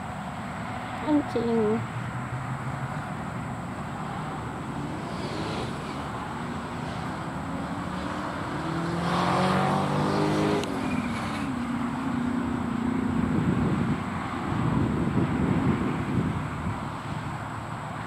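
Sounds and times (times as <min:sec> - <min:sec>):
background traffic noise: 0:00.0 - 0:18.0
passing vehicle engine and tyres: 0:00.0 - 0:18.0.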